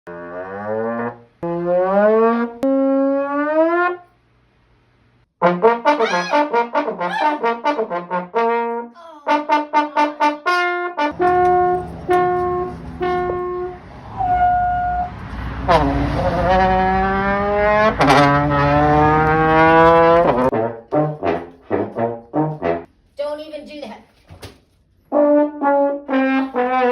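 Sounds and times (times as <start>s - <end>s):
trombone-like brass playing: 0.1s - 4.1s, 5.4s - 22.9s, 25.1s - 26.9s.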